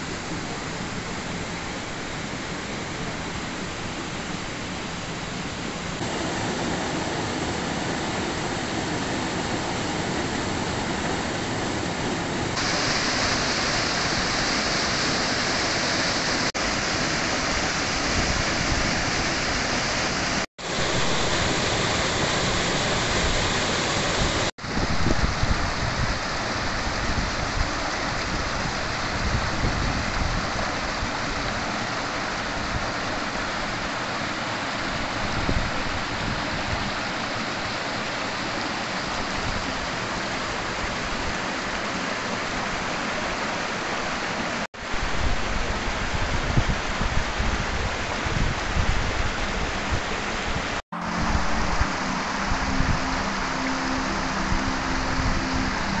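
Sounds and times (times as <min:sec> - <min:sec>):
mountain stream rushing over boulders: 0:00.0 - 0:56.0.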